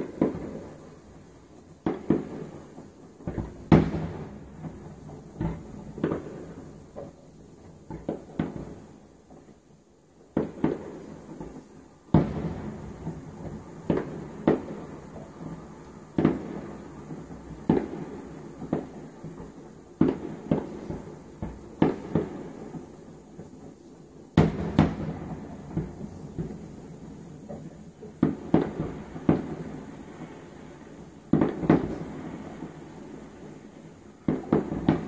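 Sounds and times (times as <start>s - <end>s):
fireworks bangs echoing: 0.0s - 1.0s, 1.8s - 8.9s, 10.3s - 35.0s.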